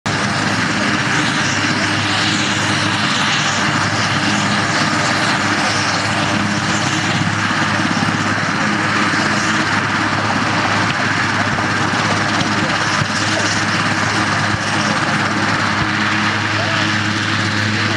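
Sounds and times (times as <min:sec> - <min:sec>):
helicopter turbine whine and rotor: 0:00.0 - 0:17.9.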